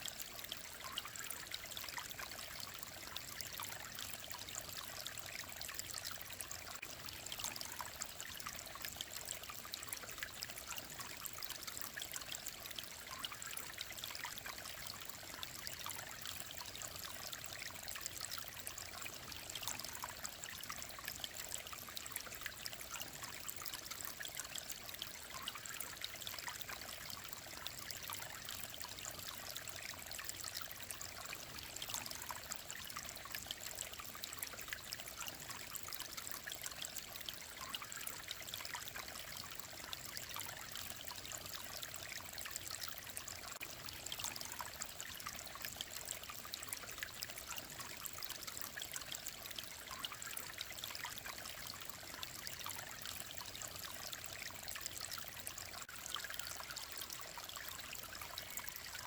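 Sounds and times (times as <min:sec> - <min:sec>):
mountain stream flowing: 0:00.0 - 0:04.0, 0:06.6 - 0:59.0.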